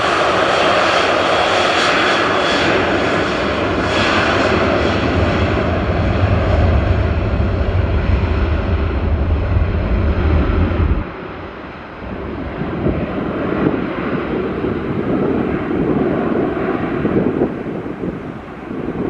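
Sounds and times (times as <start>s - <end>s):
airliner engines passing: 0.0s - 19.0s
wind rumble on microphone: 0.0s - 19.0s.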